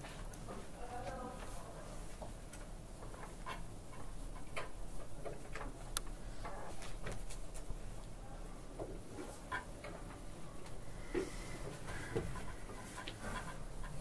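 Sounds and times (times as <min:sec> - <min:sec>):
faint clicks and taps: 0:00.0 - 0:14.0.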